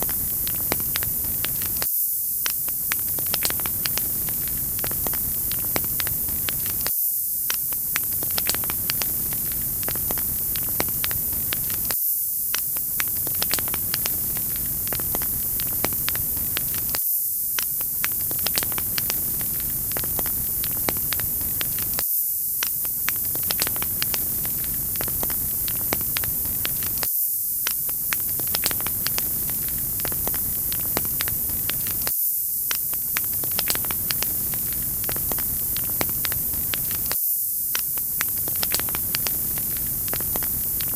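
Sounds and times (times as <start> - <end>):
wood fire crackling: 0.0 - 1.8, 2.4 - 6.9, 7.5 - 12.0, 12.8 - 17.0, 17.6 - 22.0, 22.7 - 27.1, 27.7 - 32.1, 32.7 - 37.2, 37.8 - 40.9
steady high hiss: 0.0 - 40.9.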